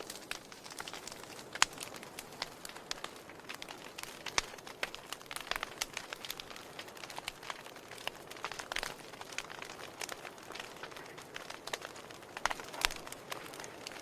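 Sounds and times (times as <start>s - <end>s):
fire pops and snaps: 0.0s - 14.0s
soft steady hiss: 0.0s - 14.0s.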